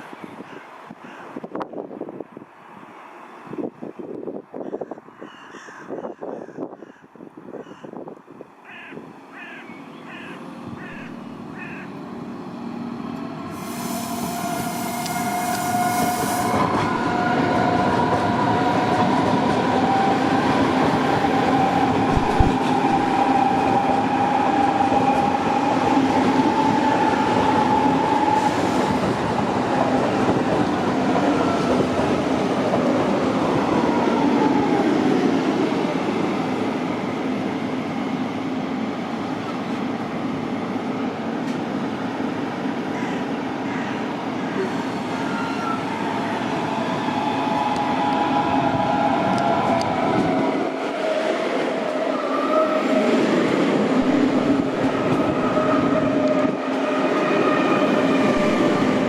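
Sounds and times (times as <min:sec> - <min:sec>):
train wheels rumbling on rail: 0:10.6 - 0:59.0.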